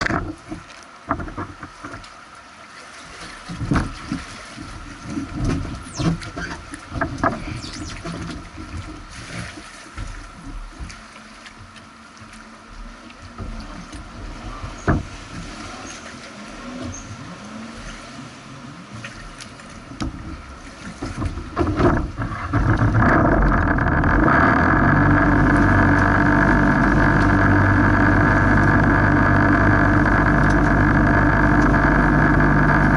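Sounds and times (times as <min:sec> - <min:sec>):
rushing water: 0:00.0 - 0:32.9
jet ski engine: 0:03.5 - 0:32.9.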